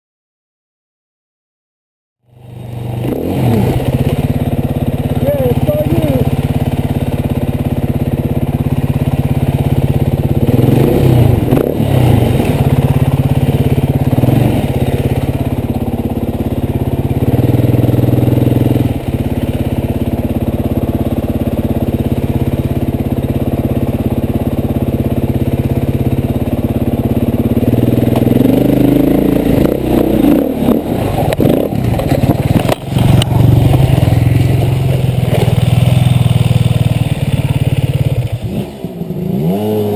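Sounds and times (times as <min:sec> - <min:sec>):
dirt bike engine revving: 0:02.5 - 0:39.9.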